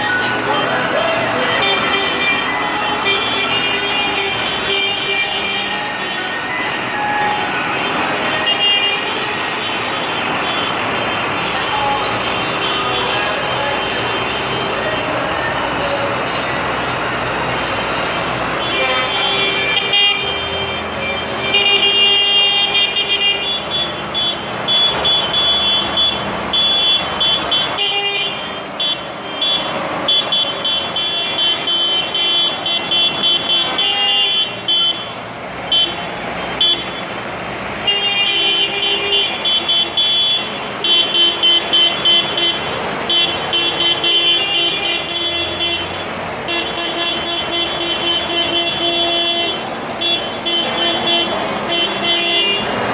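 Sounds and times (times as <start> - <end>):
tractor engines running: 0.0 - 52.9
vehicle horns tooting: 0.0 - 52.9.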